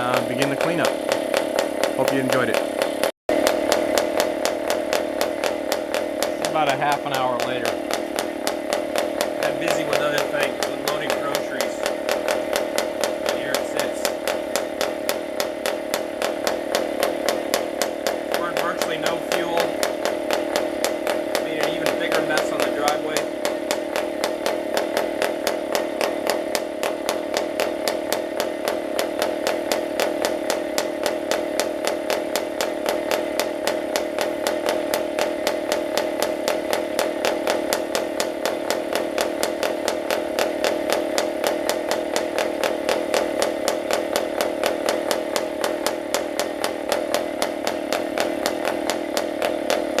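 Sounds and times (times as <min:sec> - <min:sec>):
small model engine running: 0:00.0 - 0:50.0.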